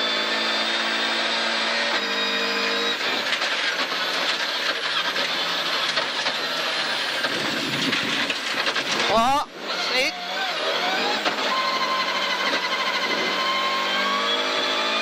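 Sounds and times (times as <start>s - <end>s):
car engine pulling hard: 0.0s - 15.0s
gravel and road noise: 0.0s - 15.0s.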